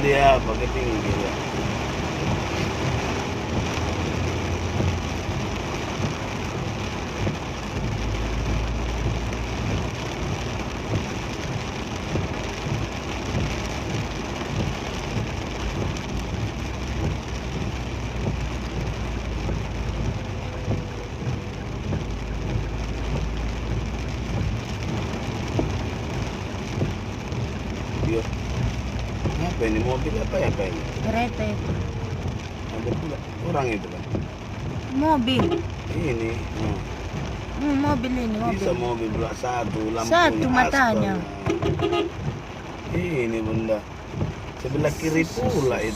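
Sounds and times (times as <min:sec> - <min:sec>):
engine and road noise: 0:00.0 - 0:45.9
heavy rain on vehicle: 0:00.0 - 0:45.9.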